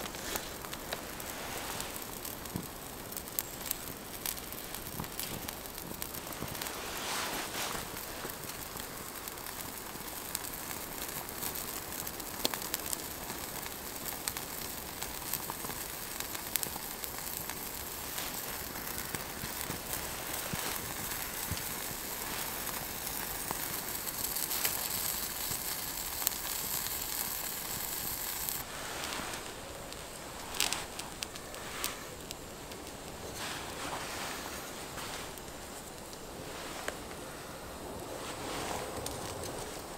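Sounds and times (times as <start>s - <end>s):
meat sizzling on a grill: 0.0s - 37.4s
wood fire crackling: 0.0s - 39.9s.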